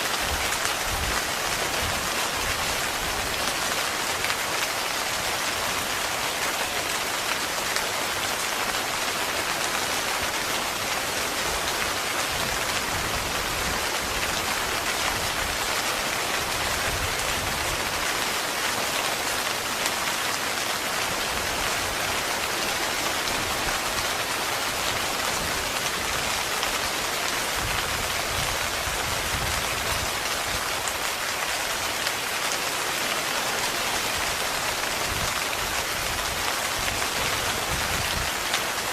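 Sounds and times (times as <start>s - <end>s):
heavy rain drumming on a tent: 0.0s - 38.9s.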